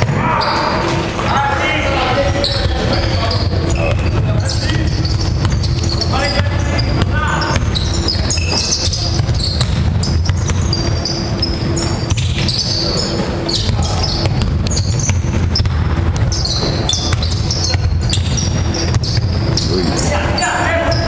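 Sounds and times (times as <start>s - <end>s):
sneakers squeaking on floor: 0.0s - 21.0s
basketball bouncing on wooden court: 2.0s - 20.1s.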